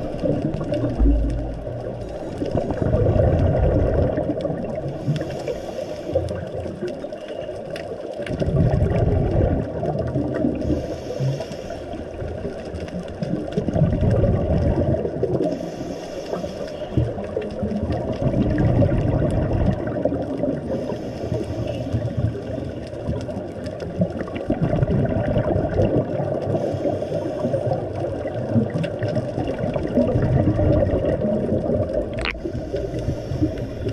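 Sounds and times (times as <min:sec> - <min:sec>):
muffled underwater water noise: 0:00.0 - 0:33.9.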